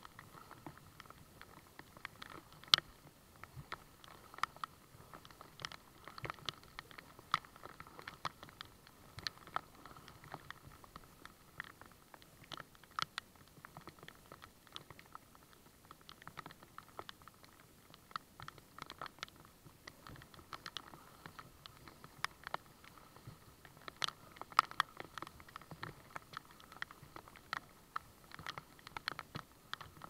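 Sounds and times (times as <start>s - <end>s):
faint steady hiss: 0.0s - 30.0s
rain drops pattering: 0.0s - 30.0s.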